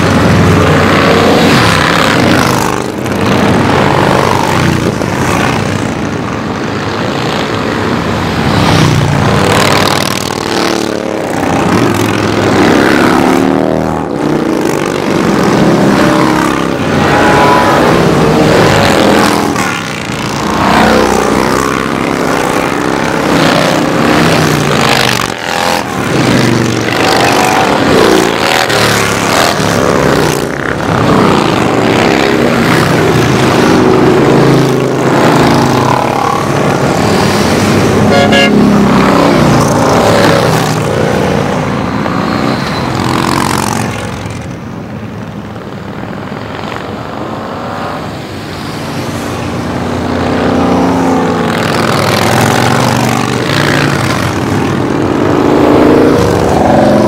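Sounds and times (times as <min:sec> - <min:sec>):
motorcycles riding past: 0:00.0 - 0:57.0.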